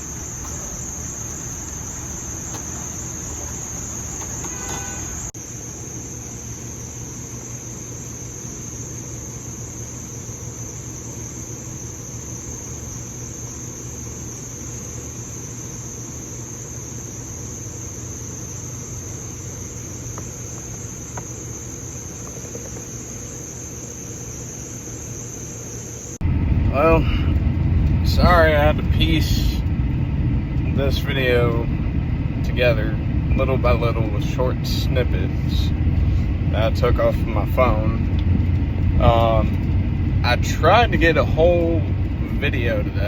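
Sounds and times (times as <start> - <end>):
crickets chirping: 0.0 - 43.0
low steady hum: 0.0 - 43.0.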